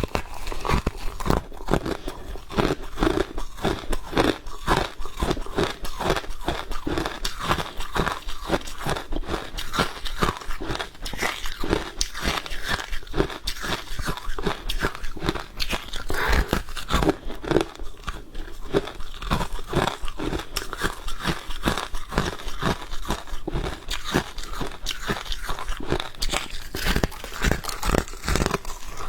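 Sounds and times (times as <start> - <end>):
ice being chewed crunching: 0.0 - 29.0.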